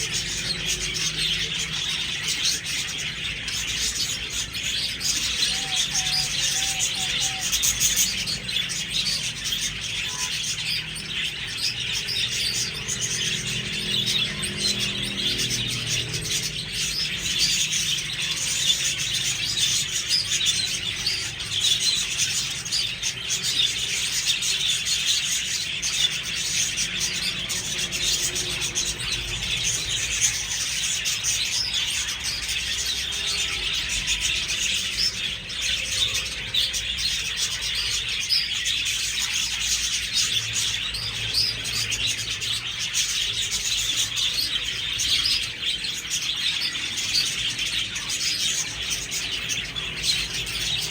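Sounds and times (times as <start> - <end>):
budgerigars chirping: 0.0 - 50.9.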